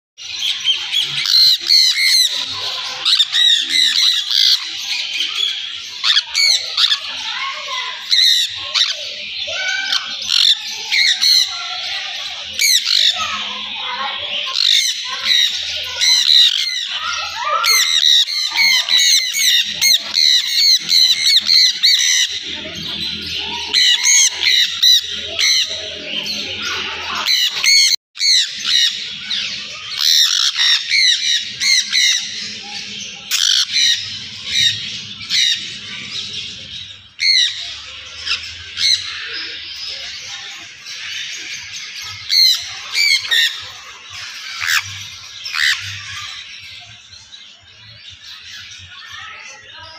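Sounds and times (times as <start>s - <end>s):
parrots calling in chorus: 0.2s - 49.7s.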